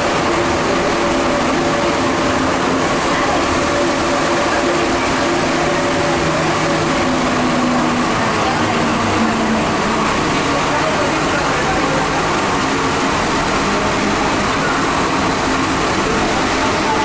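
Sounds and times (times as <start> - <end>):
train rumbling in tunnel: 0.0 - 17.0.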